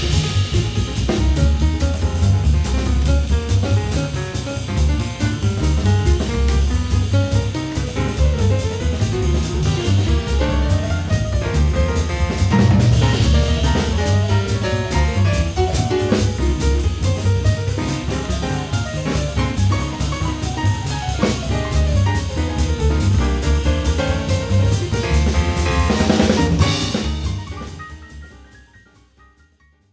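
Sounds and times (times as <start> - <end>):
drum kit beat: 0.0 - 28.7
upbeat jazz instrumental: 0.0 - 29.6.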